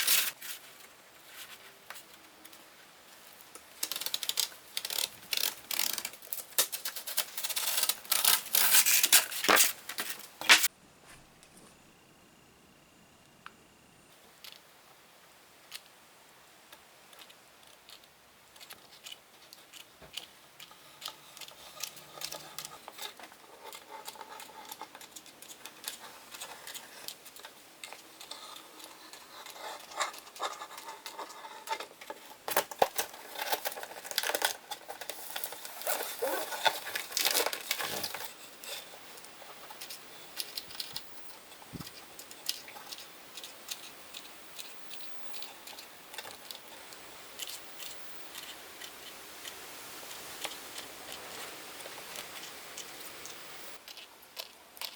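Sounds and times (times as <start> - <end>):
scratchy rustling: 0.0 - 2.1, 3.8 - 11.3, 17.2 - 54.5.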